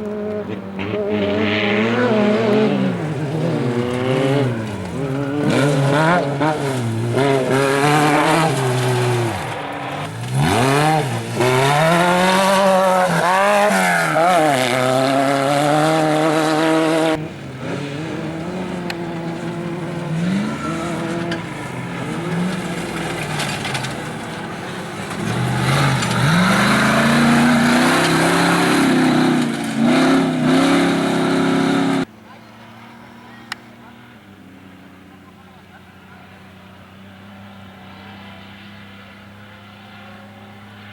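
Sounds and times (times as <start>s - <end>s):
race vehicle engines revving: 0.0s - 40.9s.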